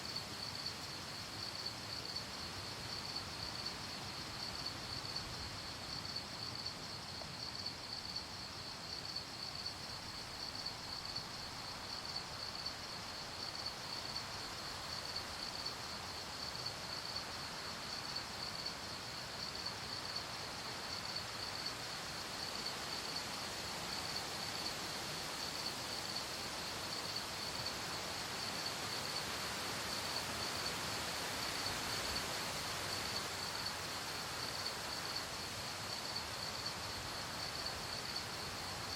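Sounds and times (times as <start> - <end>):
crickets chirping: 0.0 - 38.9
soft hiss: 0.0 - 38.9.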